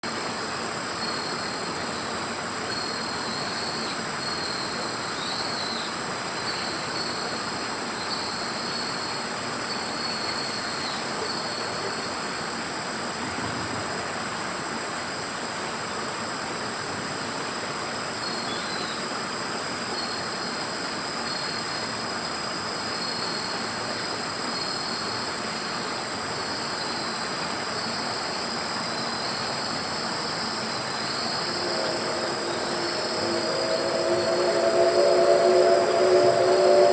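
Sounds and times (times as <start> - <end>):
background hiss: 0.0 - 36.9
insects trilling: 0.2 - 13.2, 19.8 - 36.9.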